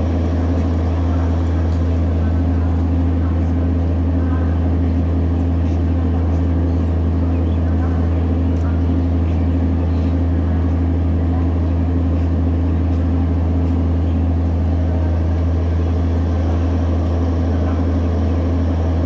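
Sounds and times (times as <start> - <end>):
train machinery hum: 0.0 - 19.0.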